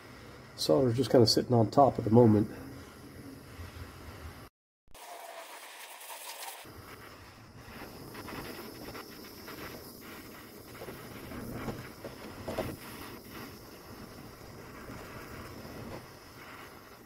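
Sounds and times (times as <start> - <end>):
propane torch hissing: 0.0 - 17.0.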